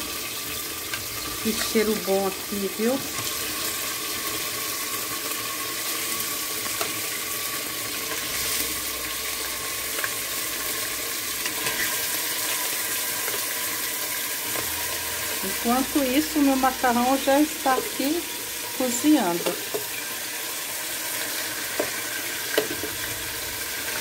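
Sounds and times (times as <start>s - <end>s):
frying sizzle in a pot: 0.0s - 24.0s.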